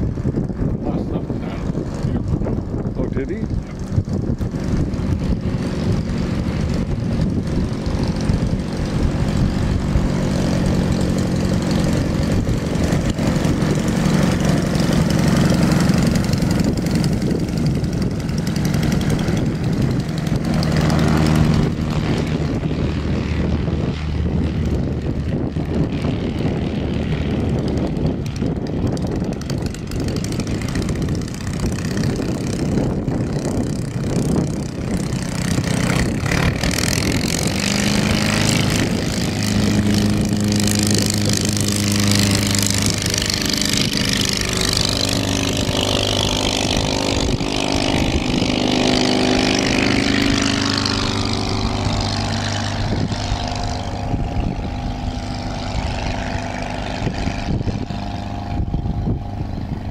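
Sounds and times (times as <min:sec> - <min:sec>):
ultralight plane engine and propeller: 0:00.0 - 0:59.9
wind buffeting microphone: 0:00.0 - 0:59.9.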